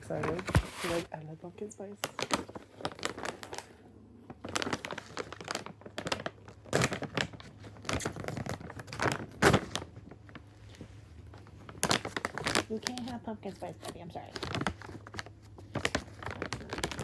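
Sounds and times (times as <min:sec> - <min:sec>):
plastic snack bag crinkling: 0:02.0 - 0:17.0.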